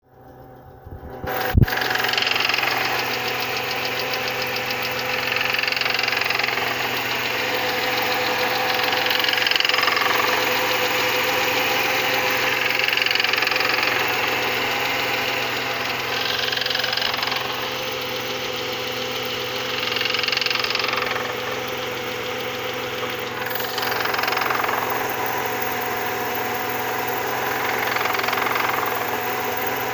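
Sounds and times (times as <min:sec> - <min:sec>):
car engine running with knock: 0:00.0 - 0:29.9.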